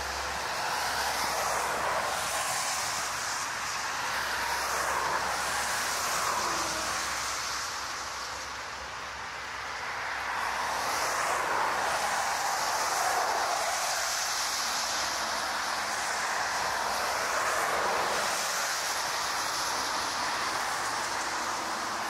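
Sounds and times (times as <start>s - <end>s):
turboprop aircraft engines rushing: 0.0s - 22.0s.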